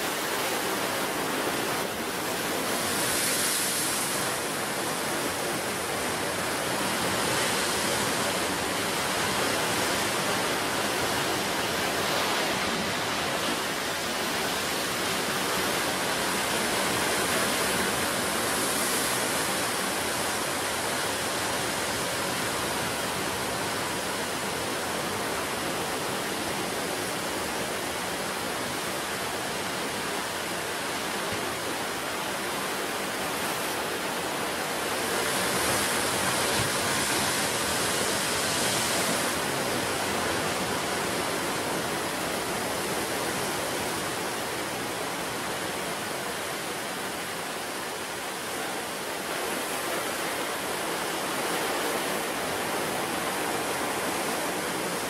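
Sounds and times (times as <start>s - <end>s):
ocean surf rushing: 0.0s - 55.0s.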